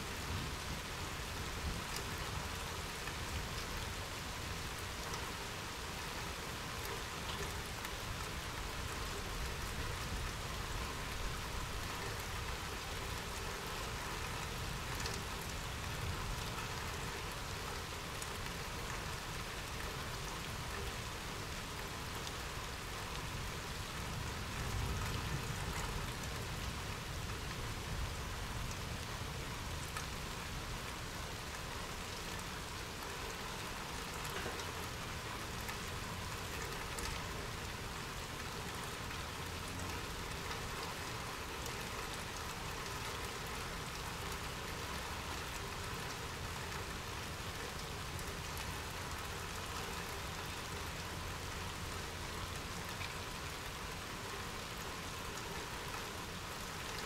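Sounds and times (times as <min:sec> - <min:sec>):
steady rain falling: 0:00.0 - 0:57.0
raindrop ticks: 0:04.8 - 0:57.0.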